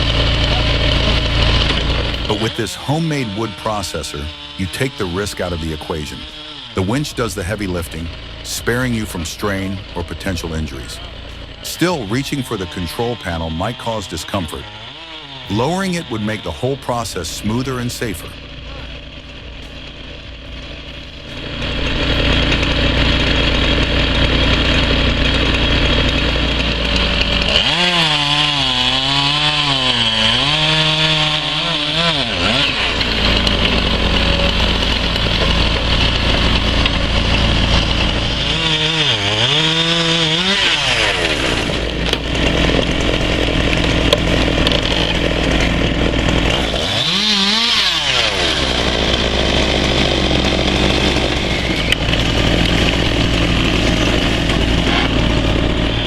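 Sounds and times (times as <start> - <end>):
chainsaw sawing through logs: 0.0 - 56.0.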